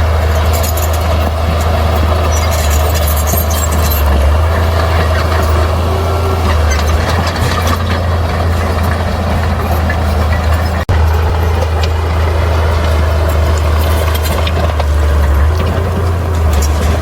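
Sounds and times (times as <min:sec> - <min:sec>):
heavy machinery diesel engine droning: 0:00.0 - 0:17.0.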